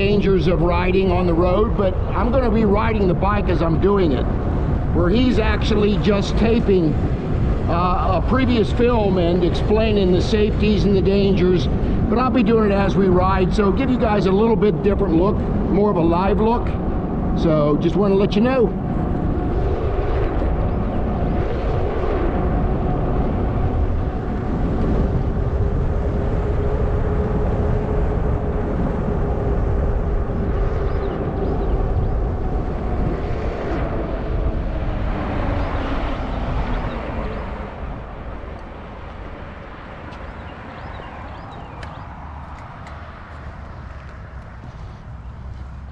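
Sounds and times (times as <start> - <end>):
electric bike whine: 0.0 - 45.9
wind rushing over microphone: 0.0 - 45.9.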